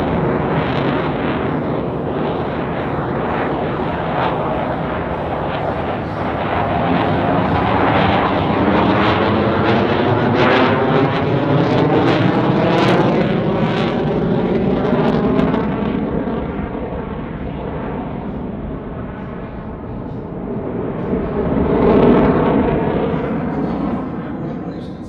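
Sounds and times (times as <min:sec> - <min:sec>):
jet roar: 0:00.0 - 0:25.0.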